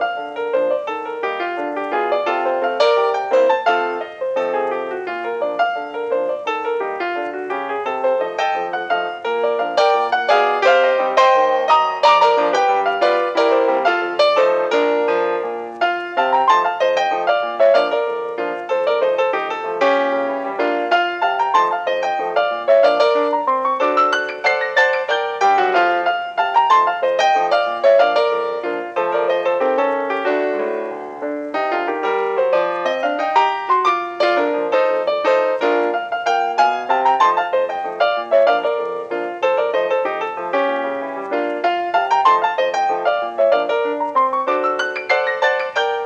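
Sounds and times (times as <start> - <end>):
solo piano music: 0.0 - 46.0.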